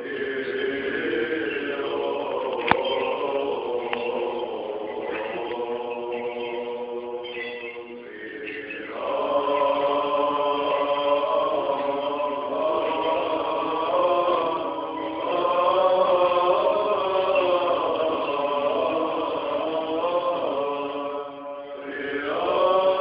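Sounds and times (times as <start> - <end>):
men chanting together: 0.0 - 23.0.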